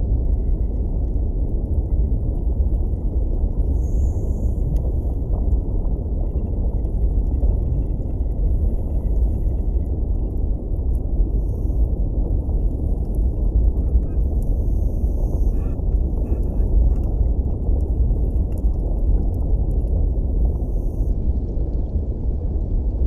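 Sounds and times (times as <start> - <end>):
underwater rumble of moving water: 0.0 - 23.0.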